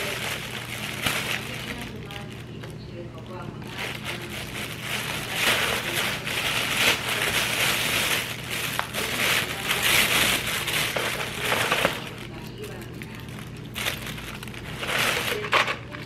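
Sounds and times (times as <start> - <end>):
plastic bag crinkling and rustling: 0.0 - 16.0.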